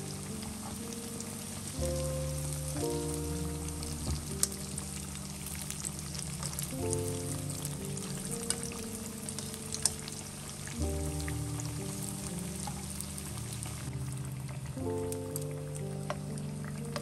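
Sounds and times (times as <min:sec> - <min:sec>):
oil sizzling in a pan: 0:00.0 - 0:17.0
soft background music: 0:00.0 - 0:17.0
oil popping: 0:02.7 - 0:17.0.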